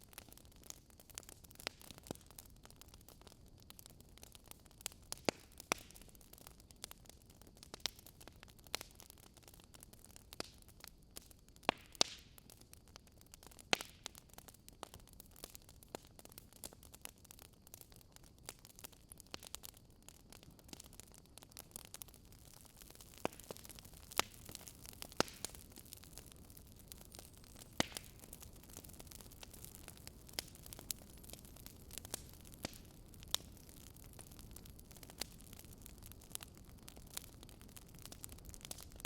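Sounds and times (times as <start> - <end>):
campfire crackling and popping: 0.0 - 39.0
soft steady fire hiss: 0.0 - 39.0.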